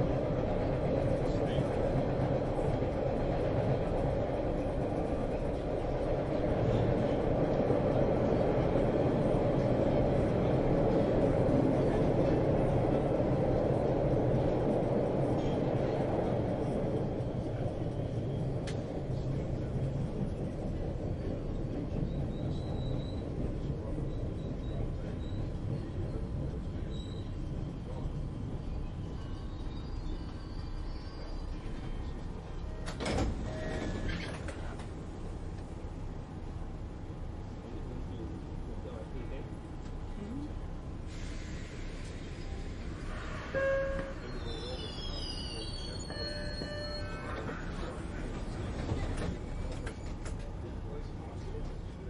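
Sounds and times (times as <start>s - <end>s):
subway train rumbling on rails: 0.0s - 52.0s.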